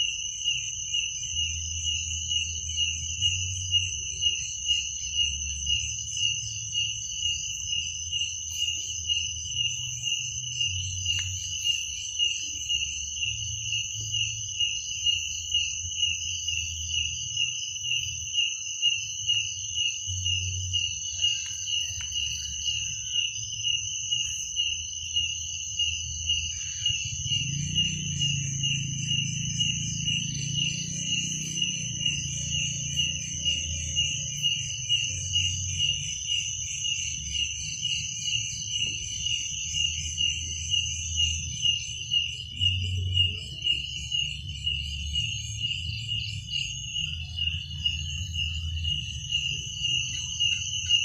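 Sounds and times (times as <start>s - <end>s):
crickets chirping: 0.0s - 51.0s
high insect drone: 0.0s - 51.0s.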